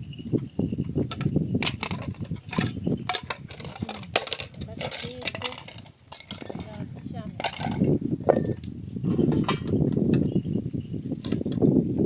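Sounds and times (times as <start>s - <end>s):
clinks knocks and clatters: 0.1s - 10.6s.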